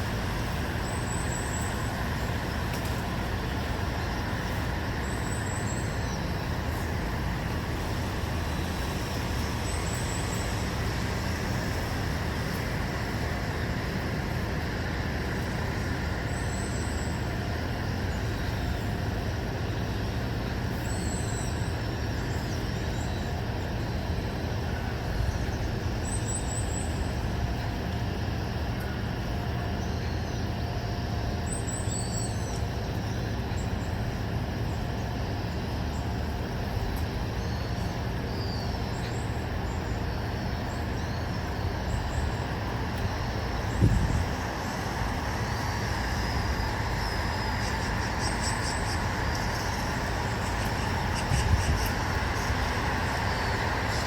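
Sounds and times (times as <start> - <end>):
distant road traffic rumble: 0.0 - 54.0.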